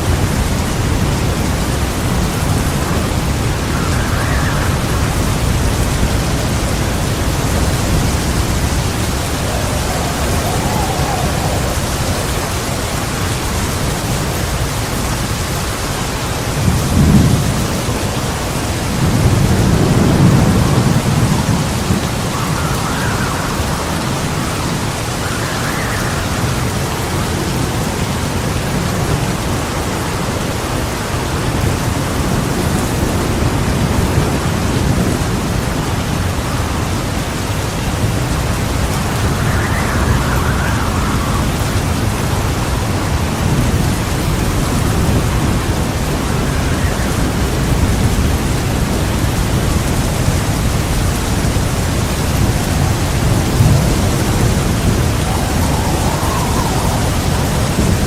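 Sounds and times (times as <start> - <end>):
low rumble of thunder: 0.0 - 29.7, 31.5 - 58.0
heavy rain falling: 0.0 - 58.0.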